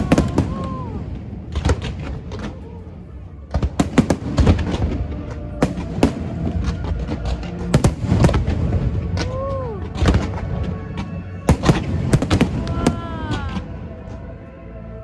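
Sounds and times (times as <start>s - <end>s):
fireworks bangs and crackles: 0.0s - 13.7s.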